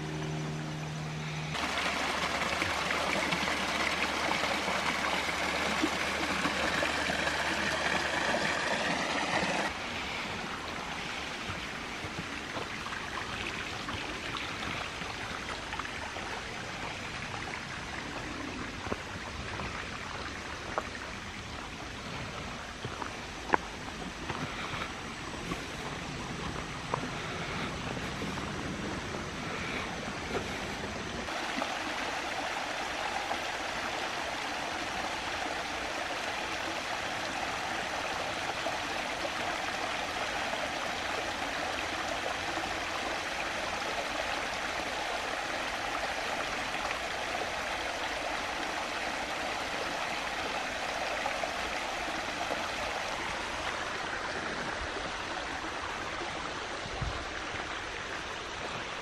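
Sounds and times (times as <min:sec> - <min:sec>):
creek flowing over rocks: 0:00.0 - 0:59.0.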